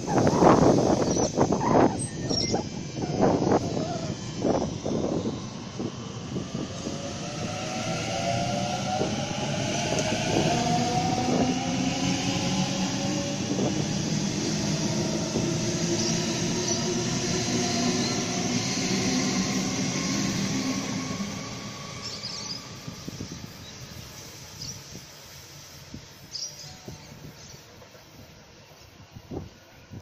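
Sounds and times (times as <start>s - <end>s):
rail rumble: 0.0s - 30.0s.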